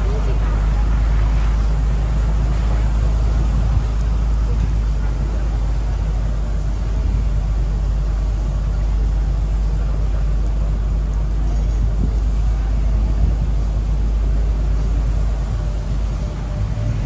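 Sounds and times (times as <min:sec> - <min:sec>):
bus rumble: 0:00.0 - 0:17.0
wind noise on microphone: 0:00.0 - 0:17.0.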